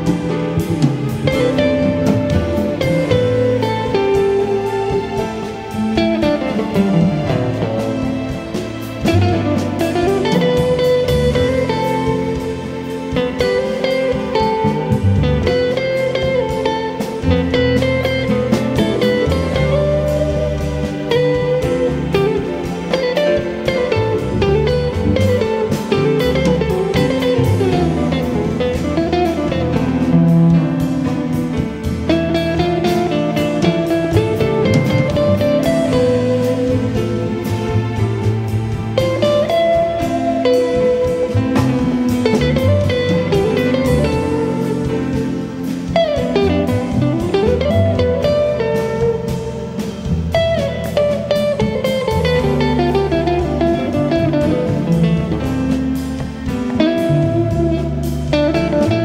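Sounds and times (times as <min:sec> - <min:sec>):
drum and cymbal strokes: 0:00.0 - 0:59.0
jazz guitar plucked notes: 0:00.0 - 0:59.0.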